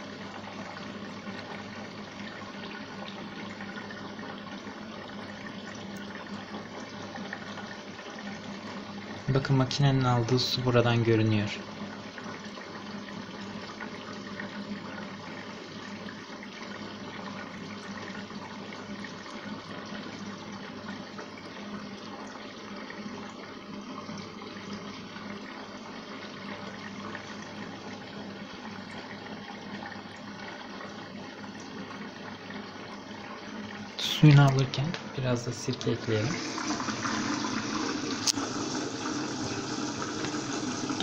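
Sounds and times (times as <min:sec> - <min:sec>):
water running into drum: 0:00.0 - 0:41.0.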